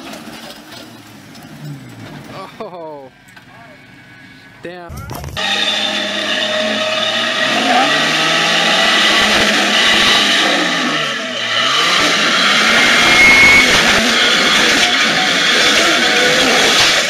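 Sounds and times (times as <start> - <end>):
engine revving under load: 1.0 - 2.6, 3.3 - 17.0.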